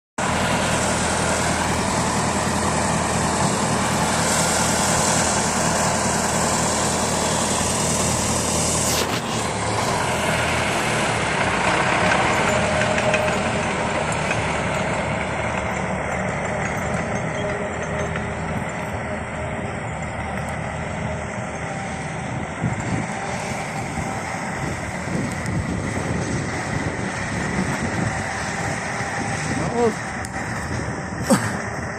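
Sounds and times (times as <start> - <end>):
tractor diesel engine running: 0.2 - 31.9.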